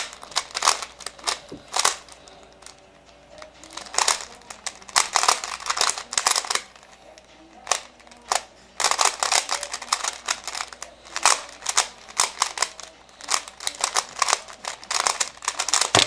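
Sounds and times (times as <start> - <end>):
plastic puzzle cube clicking: 0.0 - 2.8, 3.6 - 6.9, 7.6 - 16.0.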